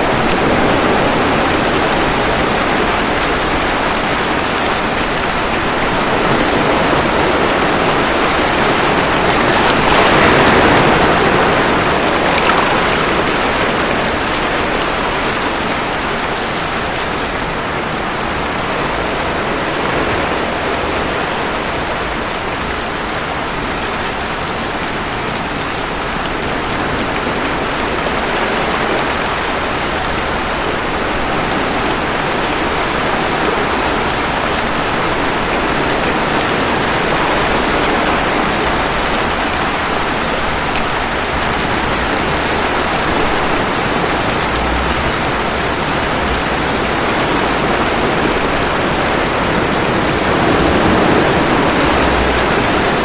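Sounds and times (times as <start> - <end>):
ocean waves washing in: 0.0 - 53.0
rain falling: 0.0 - 53.0.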